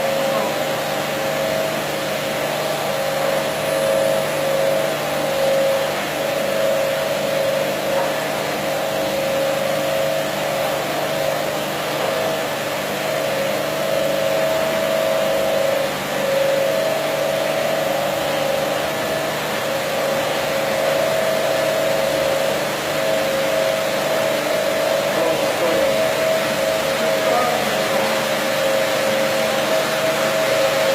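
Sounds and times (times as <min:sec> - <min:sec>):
carpet washing machine running: 0:00.0 - 0:30.9.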